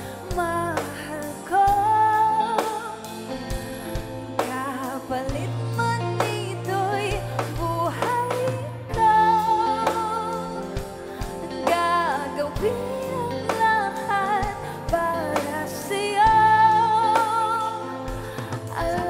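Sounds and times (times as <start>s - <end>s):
backing track with drums: 0.0s - 19.0s
woman singing: 0.0s - 19.0s.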